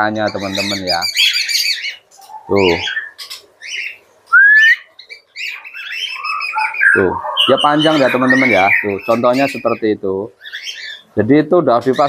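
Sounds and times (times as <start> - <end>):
budgerigar warbling and chirping: 0.0 - 11.2, 11.8 - 12.0.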